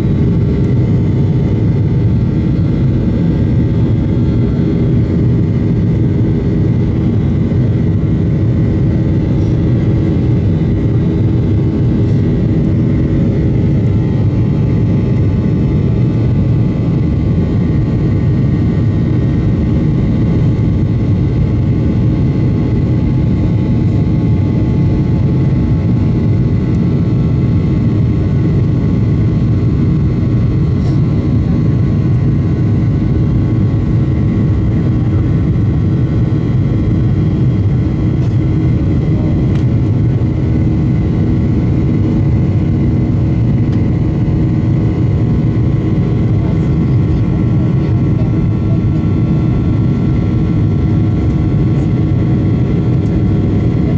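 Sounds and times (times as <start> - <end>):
airplane cabin engine rumble: 0.0 - 53.9
steady humming tones: 0.0 - 53.9.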